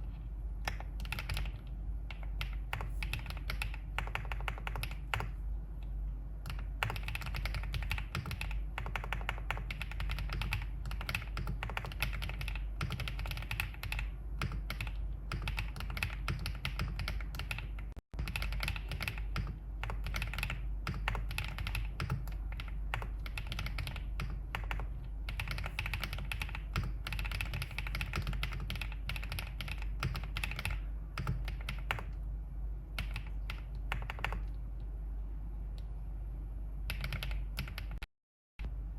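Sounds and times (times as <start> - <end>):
mechanical keyboard typing: 0.6 - 5.4, 6.4 - 32.2, 33.0 - 34.6, 36.9 - 38.1.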